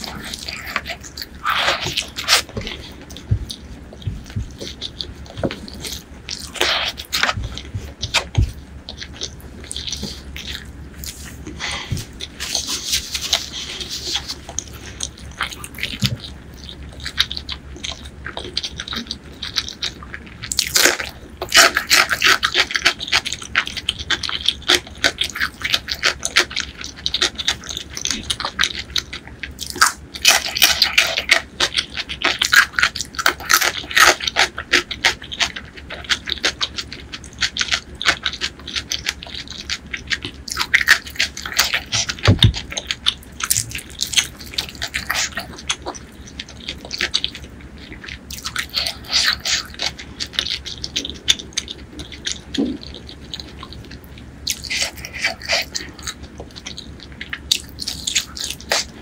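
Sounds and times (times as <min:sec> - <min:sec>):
chewing and lip-smacking: 0:00.0 - 0:59.0.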